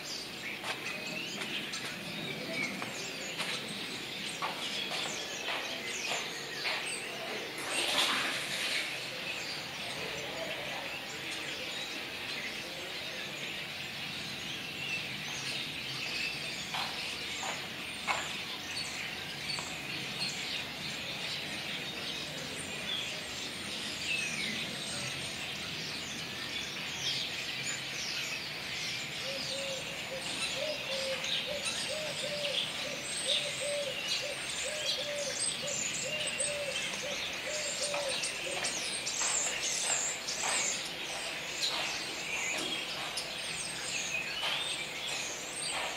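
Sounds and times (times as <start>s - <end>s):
starlings chattering: 0.0s - 45.9s.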